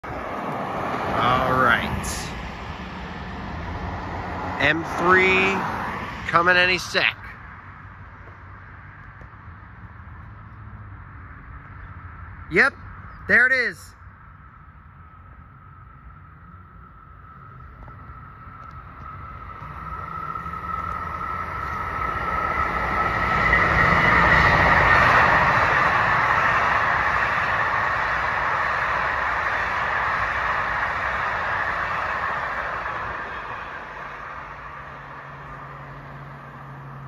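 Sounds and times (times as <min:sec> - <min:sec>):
electric train passing: 0:00.0 - 0:37.0
high train whine: 0:00.0 - 0:37.0.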